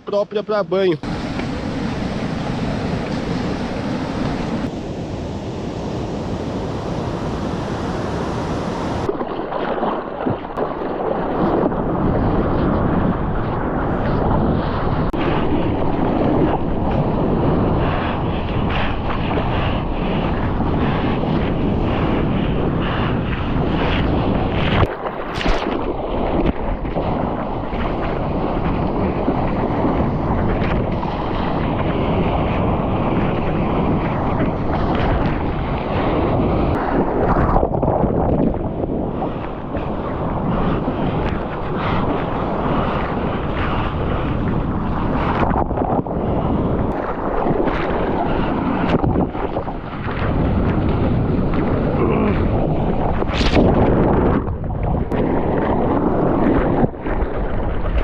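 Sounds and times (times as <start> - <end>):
rushing water and surf: 0.0 - 58.0
wind buffeting microphone: 0.0 - 58.0.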